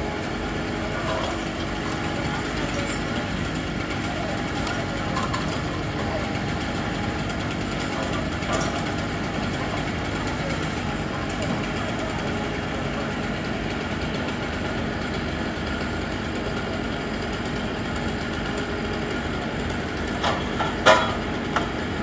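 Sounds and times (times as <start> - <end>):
crane engine running: 0.0 - 22.0.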